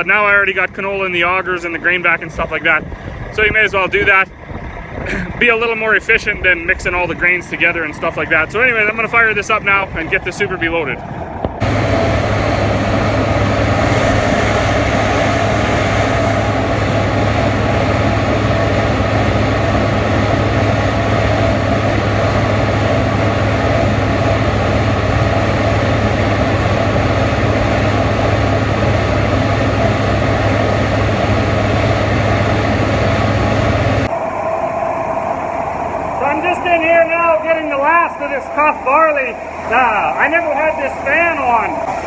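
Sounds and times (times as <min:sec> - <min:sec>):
grain machinery humming: 0:00.0 - 0:42.0.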